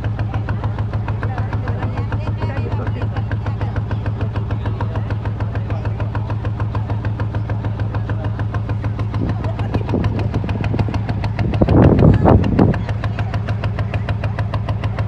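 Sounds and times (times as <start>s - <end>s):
boat engine knocking: 0.0s - 15.0s.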